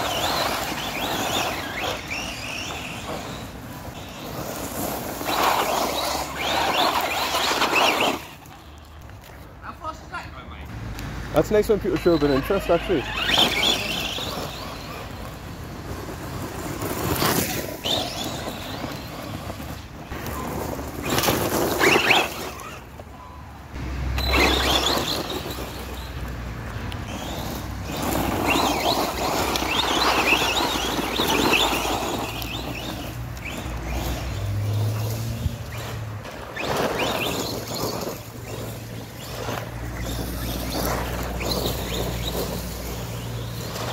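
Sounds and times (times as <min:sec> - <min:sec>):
rc car electric motor whirring: 0:00.0 - 0:08.6, 0:11.4 - 0:23.1, 0:24.2 - 0:43.9
tyres scrabbling on dirt: 0:00.0 - 0:10.0, 0:11.3 - 0:43.9.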